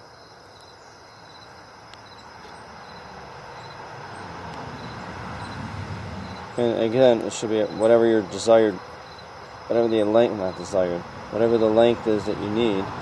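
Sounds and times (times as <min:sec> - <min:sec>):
crickets chirping: 0:00.0 - 0:13.0
low vehicle noise: 0:00.0 - 0:13.0.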